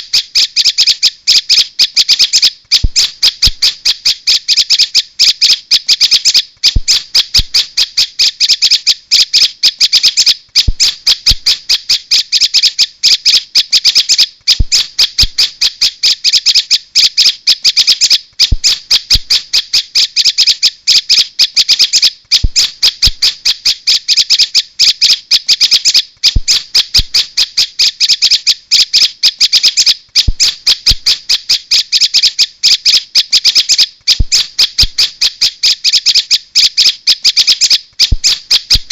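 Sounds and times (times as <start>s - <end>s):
recorded bird calls: 0.0s - 38.9s.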